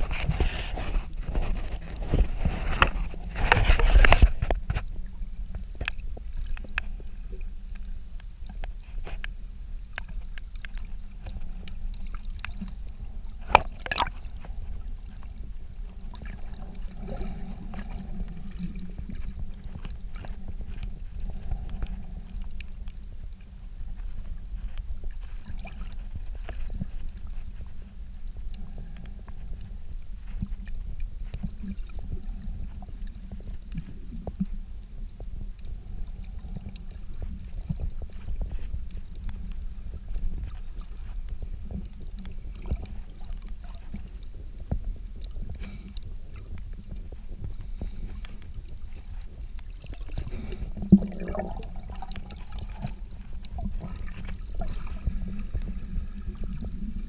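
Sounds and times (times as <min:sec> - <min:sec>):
faint underwater clicks and crackles: 0:00.0 - 0:57.0
muffled underwater rumble: 0:00.0 - 0:57.0.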